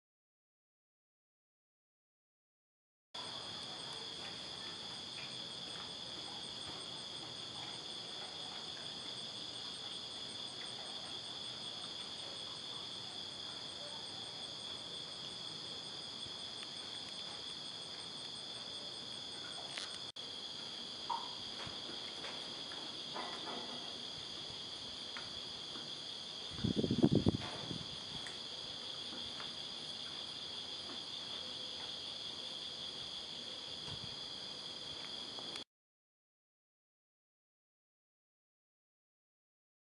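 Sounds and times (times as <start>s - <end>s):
insects trilling: 3.2s - 35.6s.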